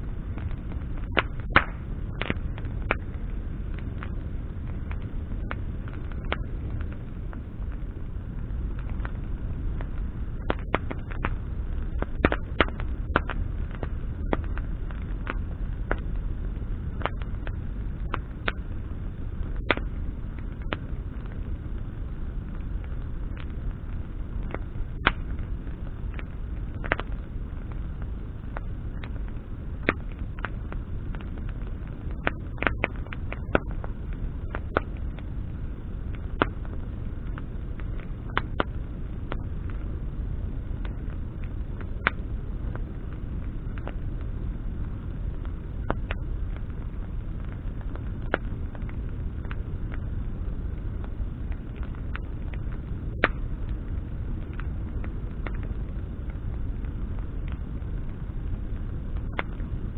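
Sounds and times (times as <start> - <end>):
campfire crackling and popping: 0.0 - 59.9
steady low rumble: 0.0 - 59.9.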